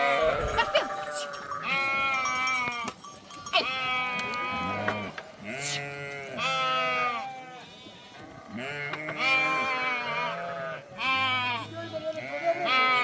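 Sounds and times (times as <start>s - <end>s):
sheep bleating: 0.0s - 13.0s.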